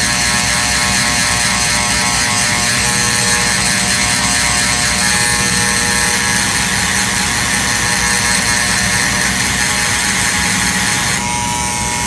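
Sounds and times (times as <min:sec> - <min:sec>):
handheld power tool running: 0:00.0 - 0:12.0.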